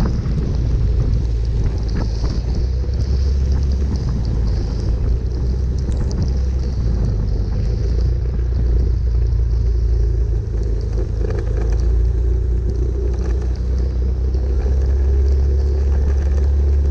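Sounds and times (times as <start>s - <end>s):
heavy rain: 0.0s - 16.9s
vehicle rumble on wet road: 0.0s - 16.9s.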